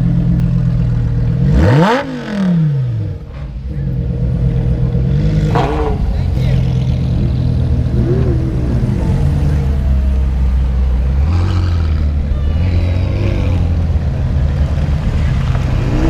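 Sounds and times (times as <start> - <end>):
car engine idling: 0.0 - 1.5, 3.0 - 16.0.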